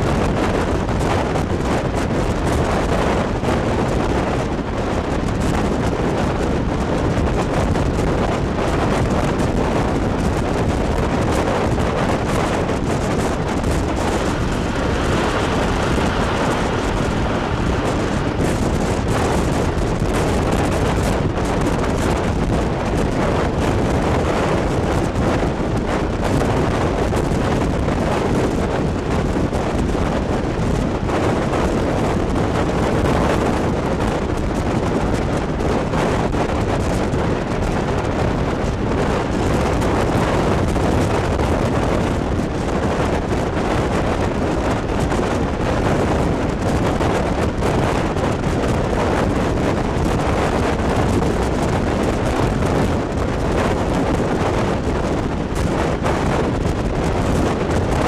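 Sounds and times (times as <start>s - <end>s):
train running on track: 0.0s - 58.0s
wind buffeting microphone: 0.0s - 58.0s.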